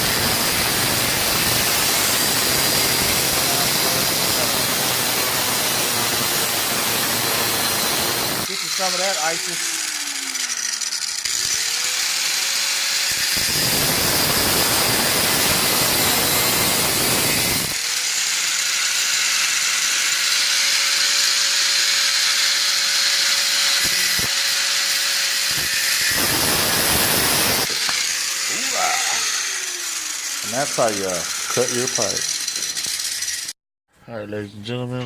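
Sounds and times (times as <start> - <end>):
harsh metal cutting noise: 0.0 - 33.6
power tool motor whine: 0.0 - 33.6.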